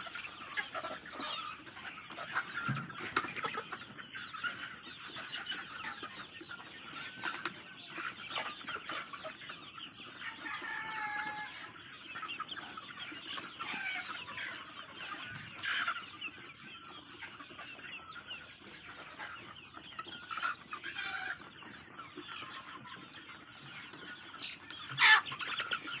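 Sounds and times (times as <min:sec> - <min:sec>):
flock of chickens clucking: 0:00.0 - 0:26.0.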